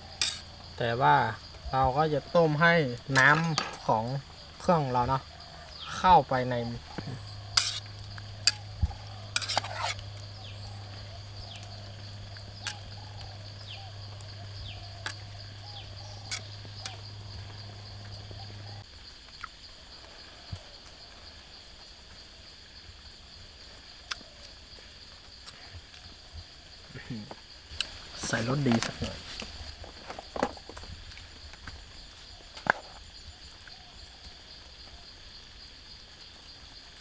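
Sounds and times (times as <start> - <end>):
insects shrilling: 0.0 - 37.0.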